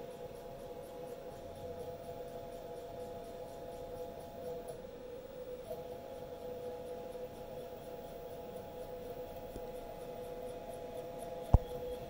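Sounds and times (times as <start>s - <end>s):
faint rhythmic clicking: 0.0s - 12.0s.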